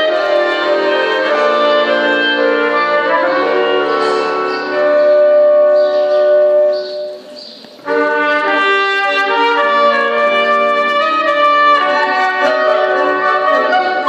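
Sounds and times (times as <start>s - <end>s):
band playing a lively tune: 0.0s - 6.8s, 7.9s - 14.0s
trumpet: 0.0s - 7.2s, 7.8s - 14.0s.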